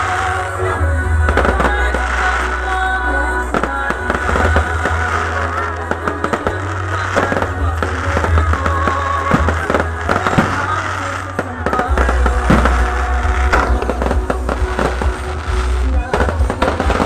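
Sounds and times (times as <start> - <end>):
fireworks bursting and crackling: 0.0 - 17.0
heavy steady bass: 0.0 - 17.0
music playing: 0.0 - 17.0.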